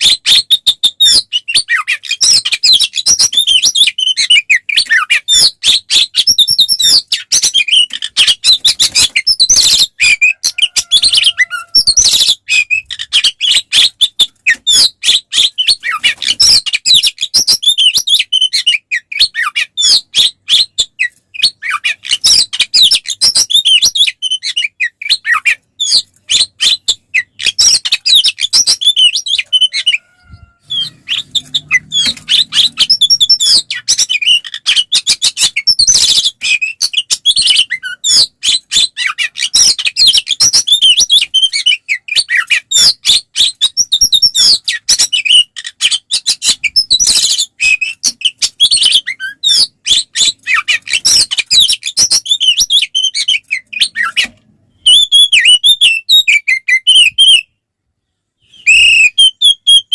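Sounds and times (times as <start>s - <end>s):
bird singing chirps and whistles: 0.0s - 57.5s, 58.4s - 59.9s.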